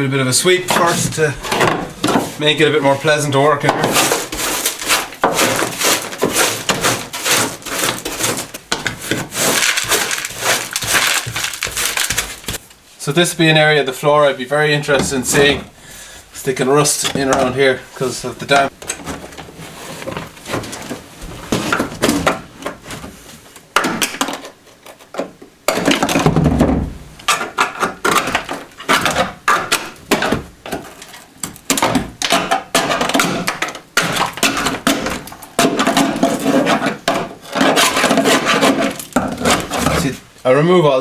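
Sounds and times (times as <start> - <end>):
hand tool scraping steel floor: 0.4 - 12.7, 14.8 - 25.1, 27.2 - 40.3.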